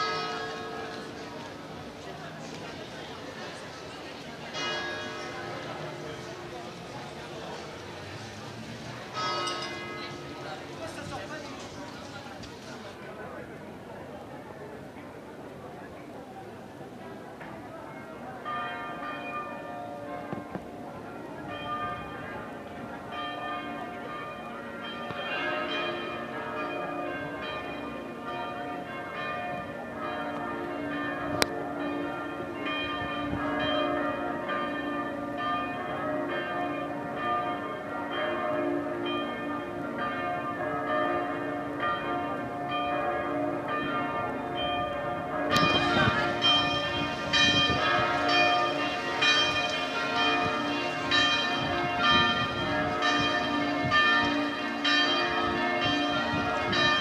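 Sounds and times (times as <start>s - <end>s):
church bells ringing a peal: 0.0s - 2.1s, 2.7s - 7.6s, 9.0s - 11.8s, 17.9s - 57.0s.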